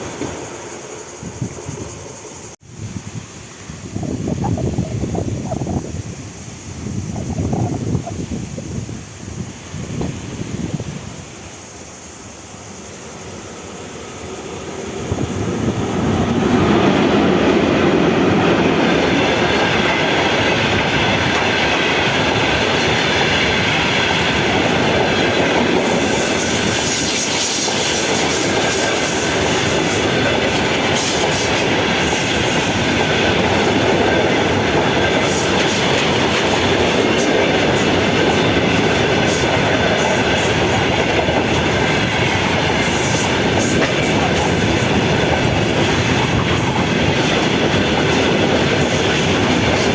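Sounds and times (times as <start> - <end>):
train passing on rails: 0.0 - 49.9.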